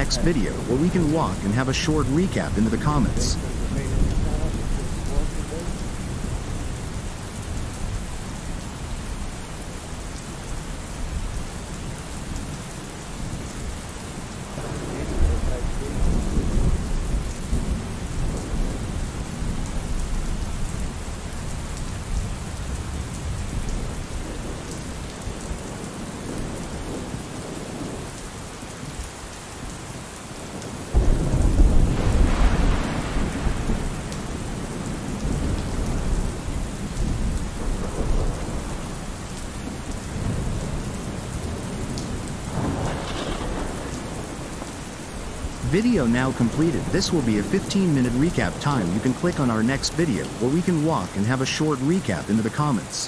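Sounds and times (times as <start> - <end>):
thunder rumbling: 0.0 - 12.5, 13.1 - 28.1, 30.5 - 51.2
steady rain: 0.0 - 53.0.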